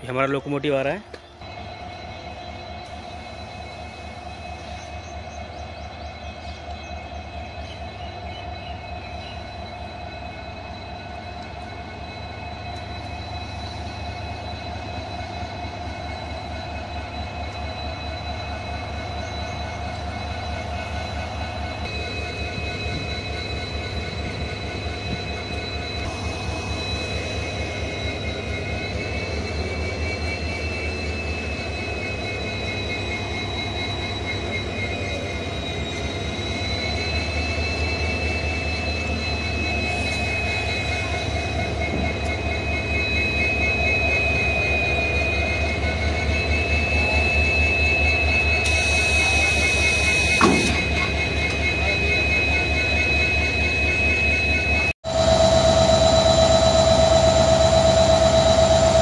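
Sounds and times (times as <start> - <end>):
diesel locomotive engine throbbing: 0.0 - 59.0.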